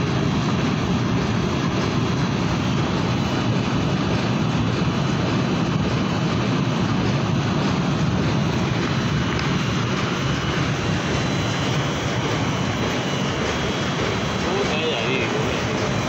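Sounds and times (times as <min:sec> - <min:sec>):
mechanical drone: 0:00.0 - 0:16.0.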